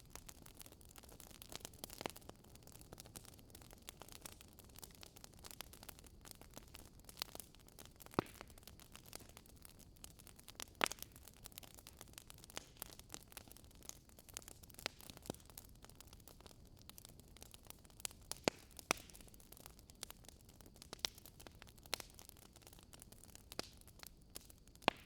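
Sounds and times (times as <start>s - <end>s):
faint fire hiss: 0.0s - 25.0s
logs crackling in fire: 0.0s - 25.0s
loud fire pops: 1.0s - 15.6s, 18.0s - 22.5s, 23.4s - 25.0s.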